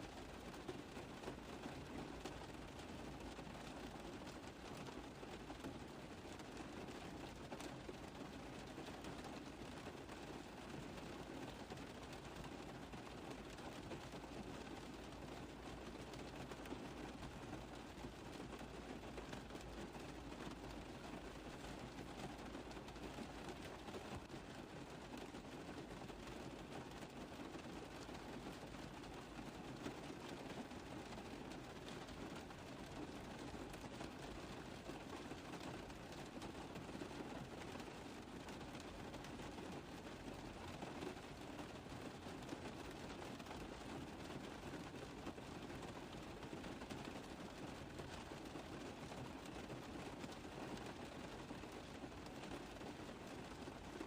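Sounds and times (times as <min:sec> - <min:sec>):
rain tapping on car roof: 0:00.0 - 0:54.0.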